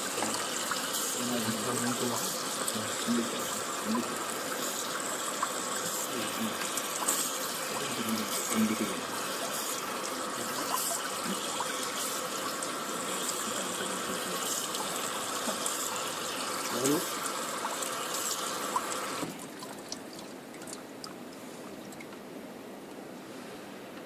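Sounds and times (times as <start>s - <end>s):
water filling washing machine: 0.0s - 22.0s.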